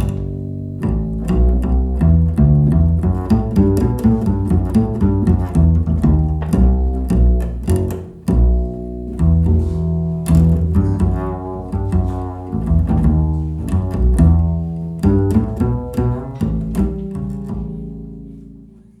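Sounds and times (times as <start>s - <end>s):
plucked notes over bass line: 0.0s - 18.7s.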